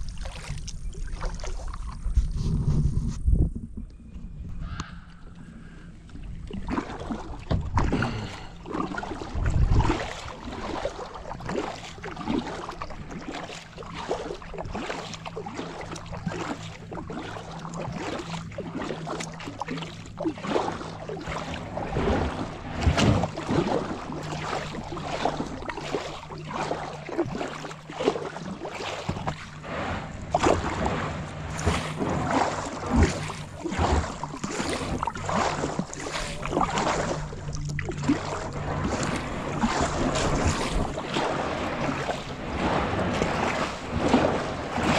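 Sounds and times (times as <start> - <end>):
kayak paddle splashing water: 0.0 - 2.2, 5.5 - 44.9.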